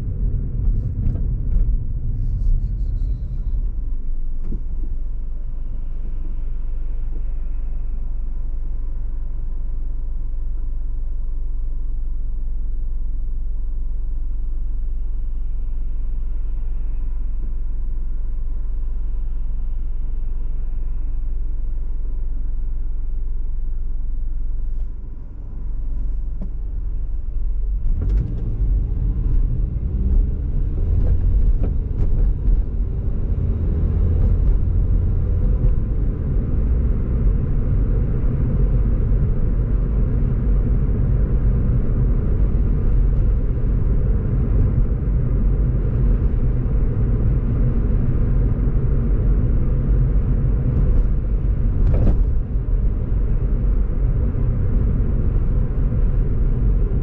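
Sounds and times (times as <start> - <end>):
car engine humming: 0.0 - 57.0.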